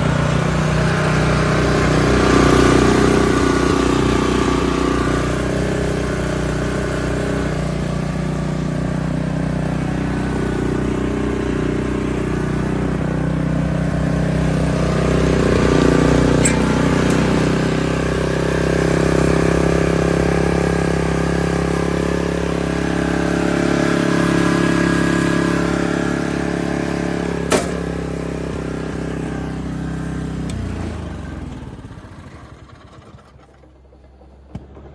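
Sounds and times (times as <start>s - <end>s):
petrol engine running: 0.0s - 34.9s.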